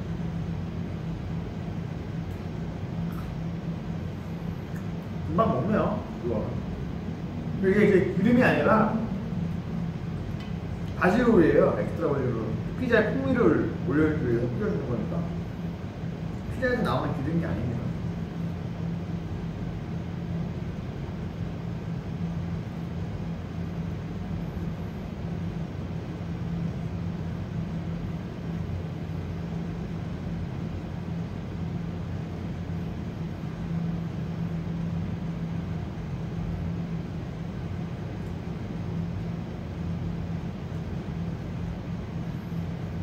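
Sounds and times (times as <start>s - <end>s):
low machine hum: 0.0s - 43.0s.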